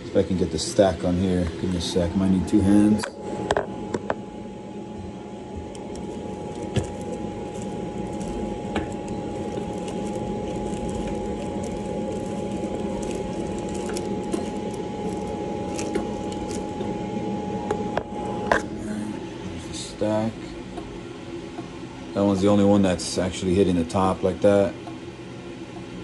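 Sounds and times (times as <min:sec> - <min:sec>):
blower motor whine: 0:00.0 - 0:26.0.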